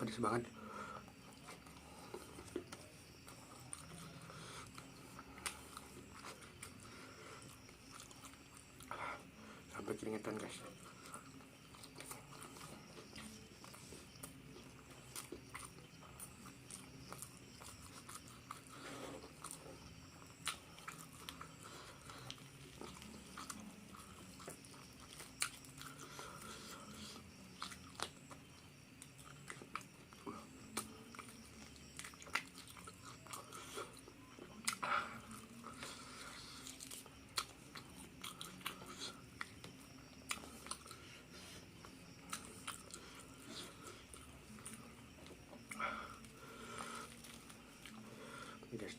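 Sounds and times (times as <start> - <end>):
person chewing crispy food: 0.3 - 48.8.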